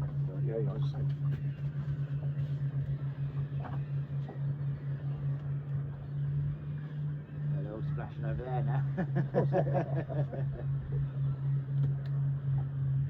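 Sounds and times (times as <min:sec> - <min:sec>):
boat engine idling: 0:00.0 - 0:13.0
wind: 0:00.0 - 0:13.0.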